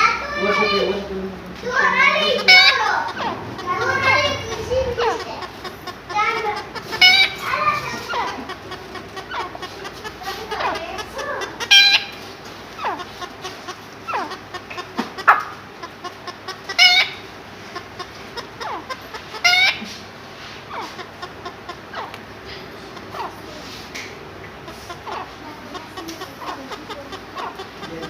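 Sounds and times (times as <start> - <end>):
chicken clucking: 1.6 - 28.0
harsh squawks: 1.6 - 28.0.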